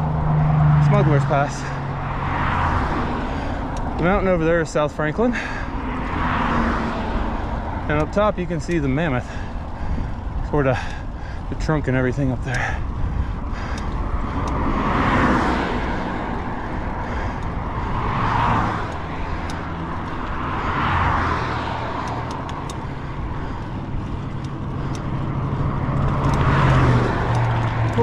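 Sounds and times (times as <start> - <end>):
low traffic rumble: 0.0 - 28.0
vehicles passing on highway: 0.0 - 28.0.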